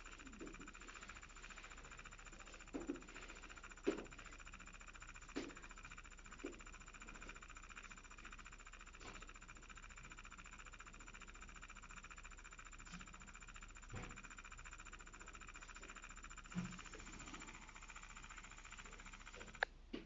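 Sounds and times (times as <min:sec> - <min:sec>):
small motor buzzing: 0:00.0 - 0:19.8.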